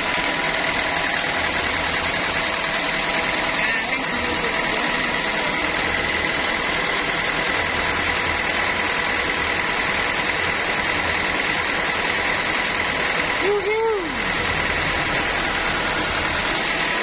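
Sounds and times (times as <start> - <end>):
high steady whine: 0.0 - 17.0
sawmill saw droning: 0.0 - 17.0.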